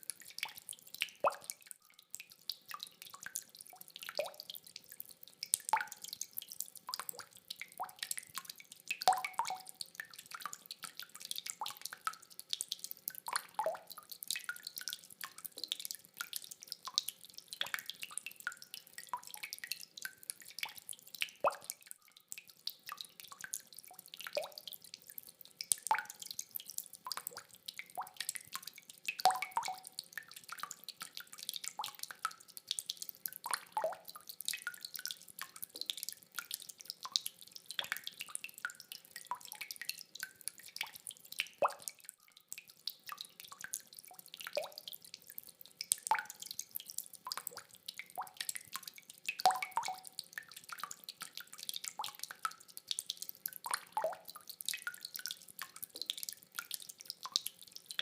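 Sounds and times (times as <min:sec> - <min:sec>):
water dripping: 0:00.0 - 0:58.0.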